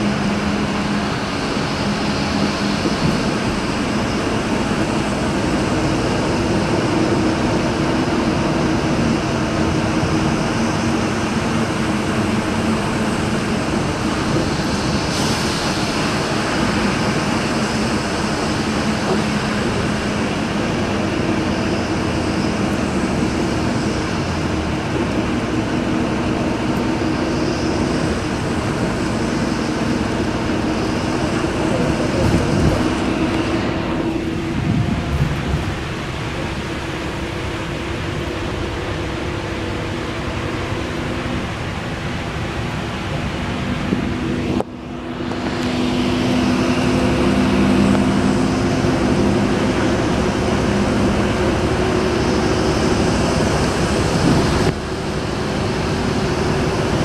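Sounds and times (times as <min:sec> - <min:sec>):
low engine hum: 0:00.0 - 0:57.0
tyre noise on wet road: 0:00.0 - 0:57.0.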